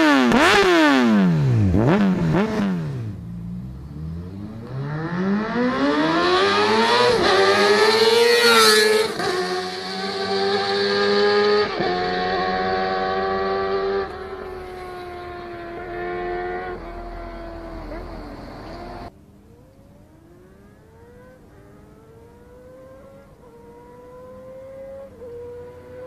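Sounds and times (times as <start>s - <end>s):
distant motorcycle accelerating: 0.0s - 26.0s
motorcycle engine passing: 0.0s - 26.0s.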